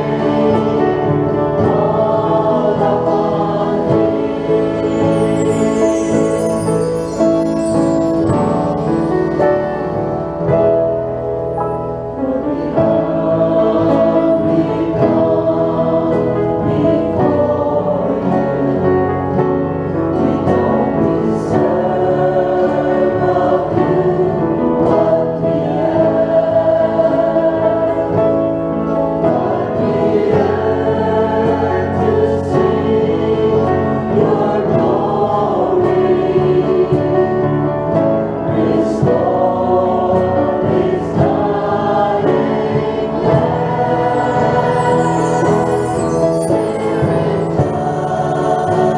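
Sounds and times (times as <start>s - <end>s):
choir singing: 0.0s - 10.5s, 12.2s - 48.9s
grand piano: 0.0s - 48.9s.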